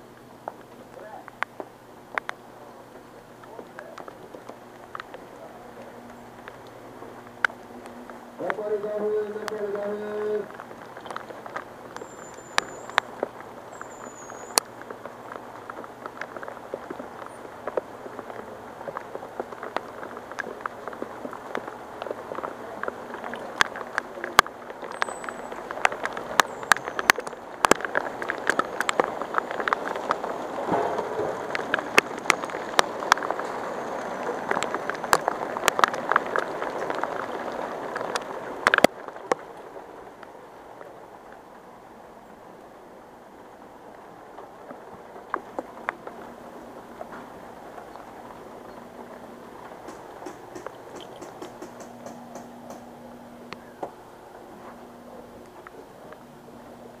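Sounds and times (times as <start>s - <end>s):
heavy rain falling: 0.0s - 57.0s
raindrops striking near microphone: 0.0s - 57.0s.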